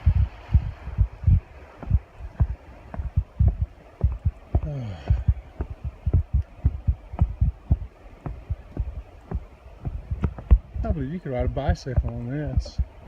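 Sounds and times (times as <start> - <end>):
footsteps on bridge deck: 0.0 - 13.0.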